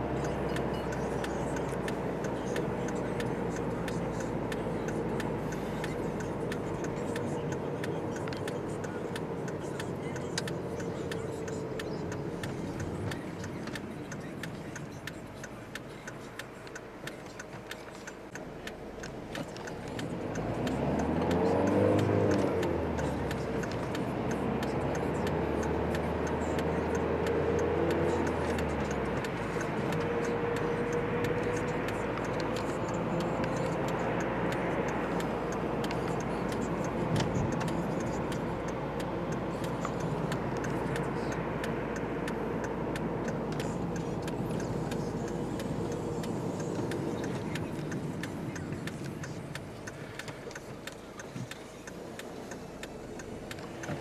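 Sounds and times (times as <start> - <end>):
car engine revving: 0.0 - 54.0
road noise inside car: 0.0 - 54.0.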